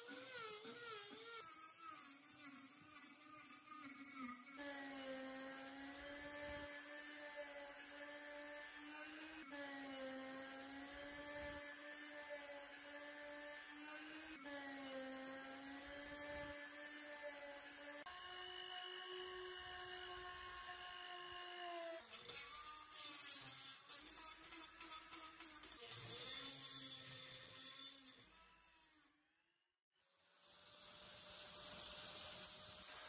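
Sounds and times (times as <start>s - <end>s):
electric power tool whining: 0.0s - 28.7s.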